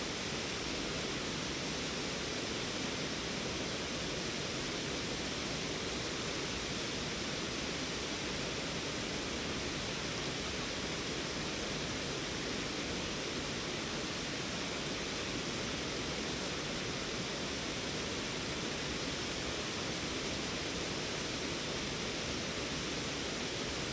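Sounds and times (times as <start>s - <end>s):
small waterfall rushing: 0.0s - 23.9s.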